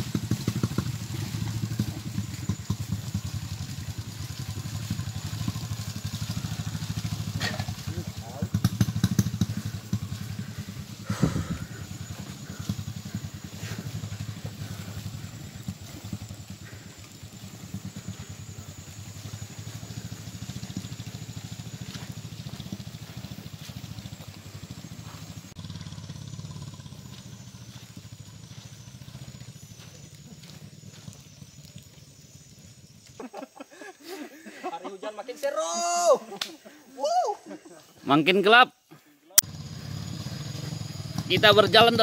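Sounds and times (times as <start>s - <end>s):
motorcycle engine running slowly: 0.0s - 34.7s, 39.4s - 42.0s.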